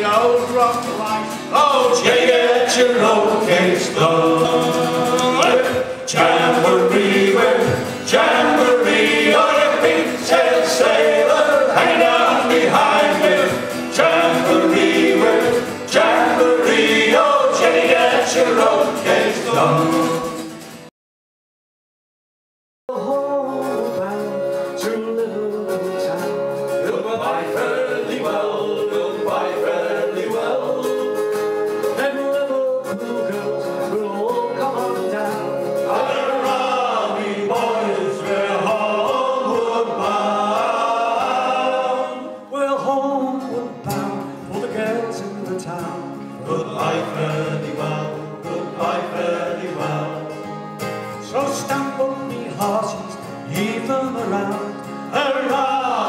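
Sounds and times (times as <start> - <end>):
men's vocal group singing: 0.0 - 20.6, 23.0 - 50.6, 51.2 - 56.0
acoustic guitar: 0.0 - 20.9, 22.9 - 56.0.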